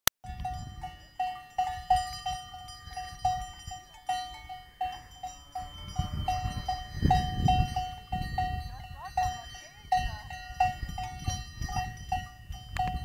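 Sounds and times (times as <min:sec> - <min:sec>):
cowbells clanking: 0:00.2 - 0:13.0.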